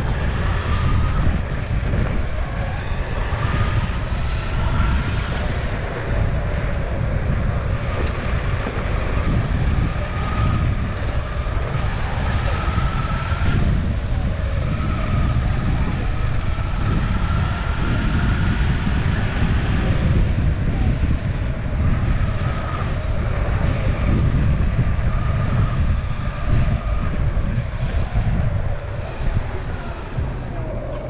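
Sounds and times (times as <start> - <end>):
high motor whine: 0.0 - 31.0
wheels rolling on asphalt: 0.0 - 31.0
wind over microphone: 0.0 - 31.0.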